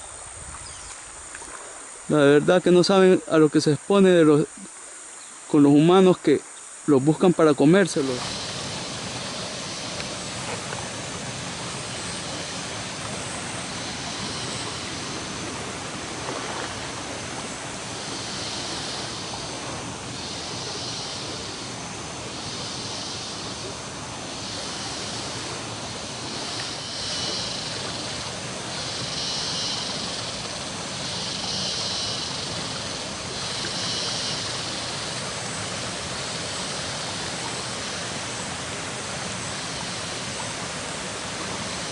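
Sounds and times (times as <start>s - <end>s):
river rapids rushing over rocks: 7.3s - 41.9s.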